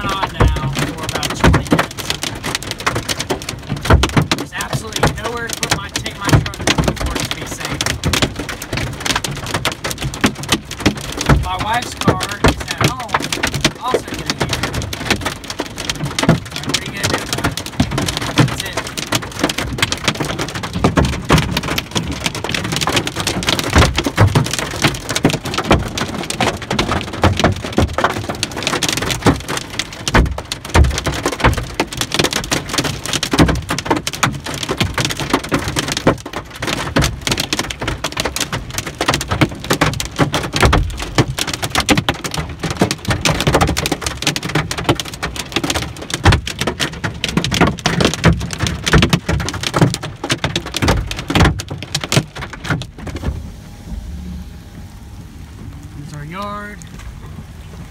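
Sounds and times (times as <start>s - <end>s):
hailstones pelting a truck roof: 0.0s - 54.1s, 55.7s - 57.9s.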